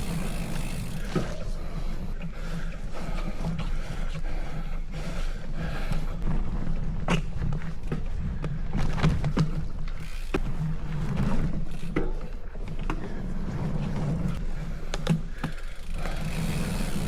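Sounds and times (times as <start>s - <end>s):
bicycle riding rumble: 0.0s - 17.0s
bike clicks and ticks: 0.0s - 17.0s.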